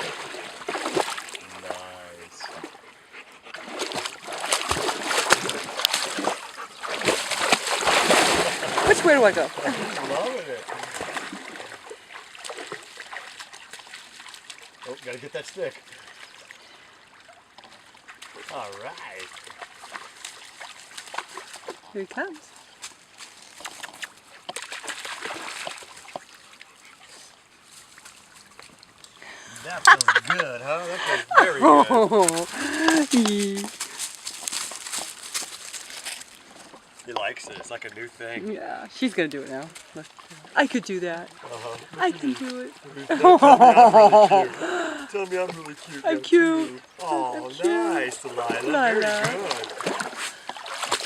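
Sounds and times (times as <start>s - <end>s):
dogs splashing through water: 0.0s - 51.0s.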